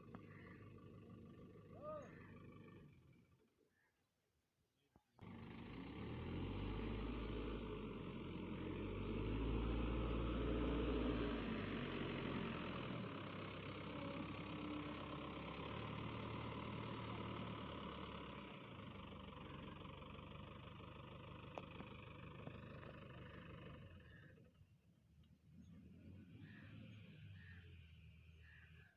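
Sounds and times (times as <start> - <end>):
diesel engine of farm machine: 0.0 - 3.4, 5.2 - 28.8.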